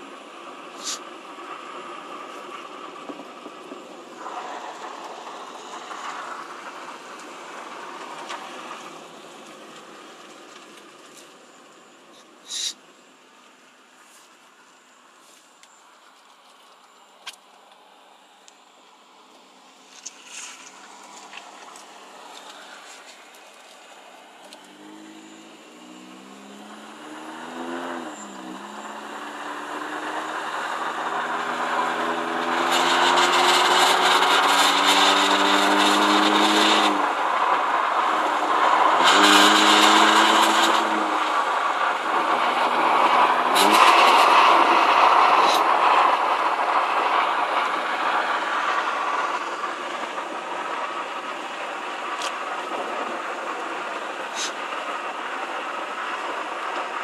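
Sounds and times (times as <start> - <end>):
car engine accelerating: 0.0 - 13.9, 14.8 - 57.0.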